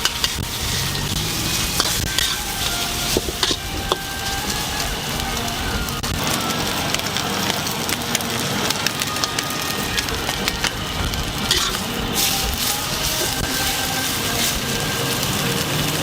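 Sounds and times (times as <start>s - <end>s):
metal spatula clicking and scraping: 0.0s - 5.2s, 7.0s - 16.0s
food sizzling in a wok: 0.0s - 16.0s.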